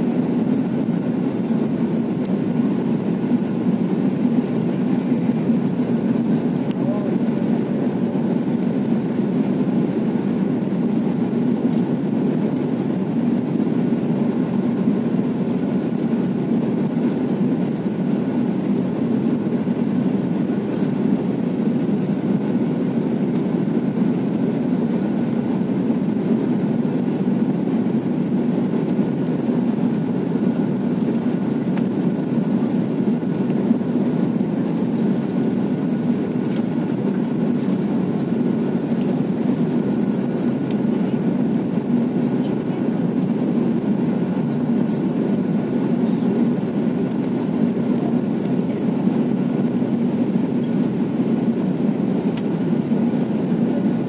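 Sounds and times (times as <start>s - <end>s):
airplane cabin engine rumble: 0.0s - 54.0s
faint steady whine: 0.0s - 54.0s.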